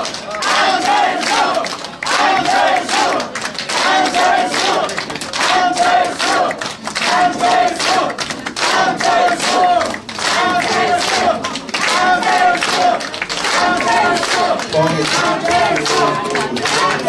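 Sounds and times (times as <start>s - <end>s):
crowd chanting: 0.0s - 17.0s
people clapping in time: 0.0s - 17.0s.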